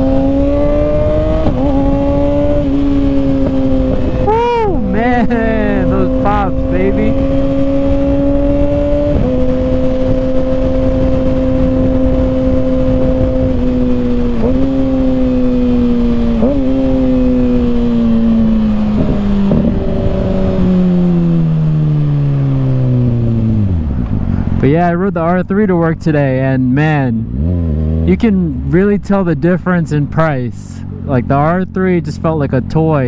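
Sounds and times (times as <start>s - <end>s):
motorcycle engine riding: 0.0s - 33.0s.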